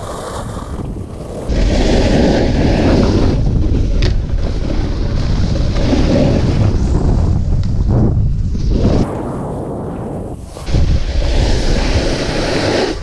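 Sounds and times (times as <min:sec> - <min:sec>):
snowboard sliding on snow: 0:00.0 - 0:13.0
wind buffeting microphone: 0:00.0 - 0:13.0.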